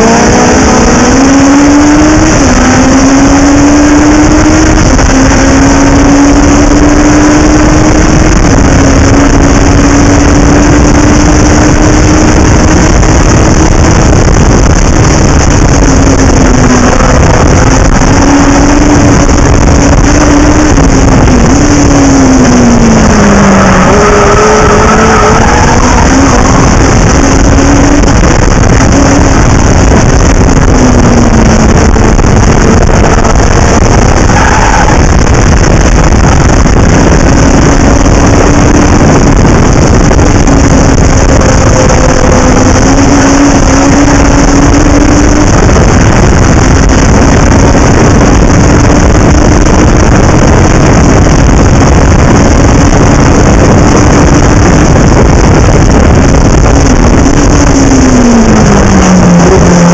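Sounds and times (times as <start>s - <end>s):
race car engine: 0.0s - 59.9s
wind and road noise: 0.0s - 59.9s.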